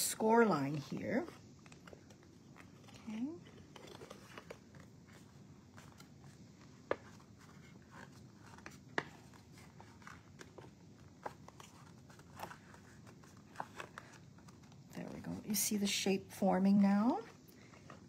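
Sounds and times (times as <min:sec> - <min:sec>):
paper rustling: 0:00.7 - 0:15.3.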